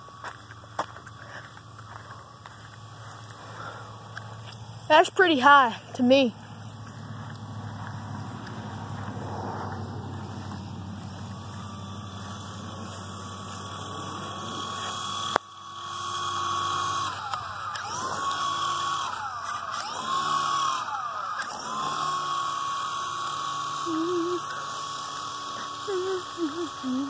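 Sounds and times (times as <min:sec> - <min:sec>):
toy helicopter motor whining: 0:00.0 - 0:27.0.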